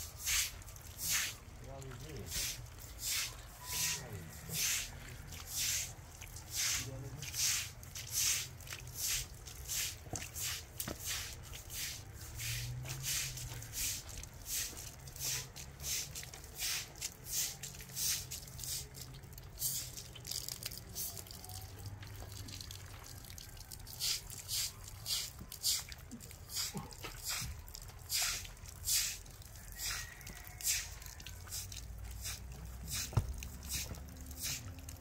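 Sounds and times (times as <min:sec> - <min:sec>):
broom sweeping wet concrete: 0:00.0 - 0:20.2, 0:23.9 - 0:35.0.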